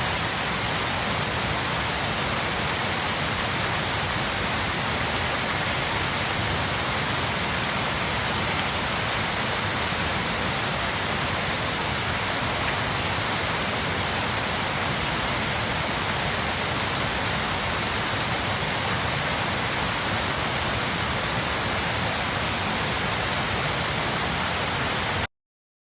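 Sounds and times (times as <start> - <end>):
water rushing over spillway: 0.0 - 25.3.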